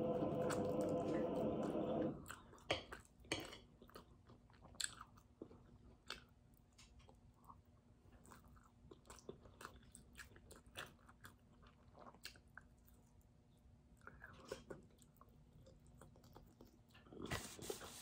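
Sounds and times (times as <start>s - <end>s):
faint chewing: 2.1s - 18.0s.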